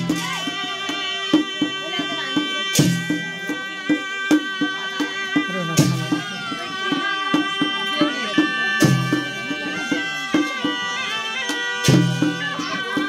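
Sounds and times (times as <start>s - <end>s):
steady drumbeat: 0.0s - 13.0s.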